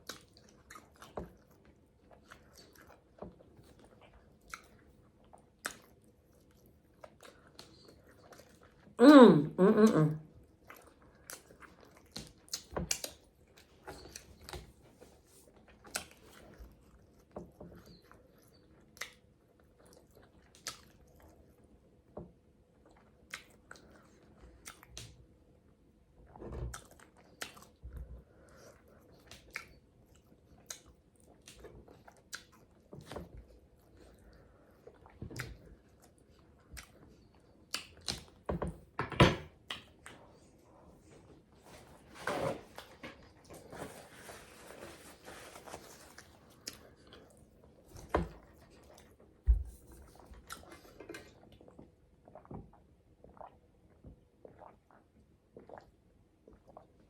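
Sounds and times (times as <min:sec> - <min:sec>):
chewing and mouth smacking: 0:00.0 - 0:08.9, 0:10.4 - 0:21.7, 0:22.7 - 0:25.2, 0:26.3 - 0:38.5, 0:39.6 - 0:41.2, 0:45.6 - 0:57.0.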